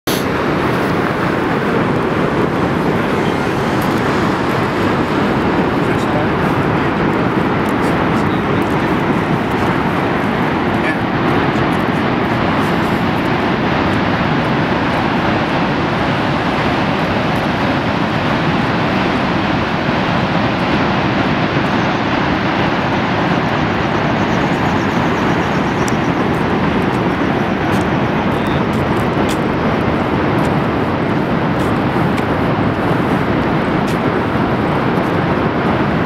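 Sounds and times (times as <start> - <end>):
waterfall roaring: 0.1 - 36.0.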